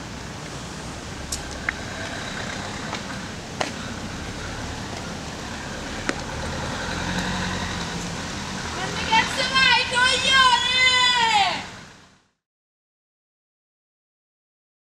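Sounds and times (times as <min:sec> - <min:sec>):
distant traffic rumble: 0:00.0 - 0:12.3.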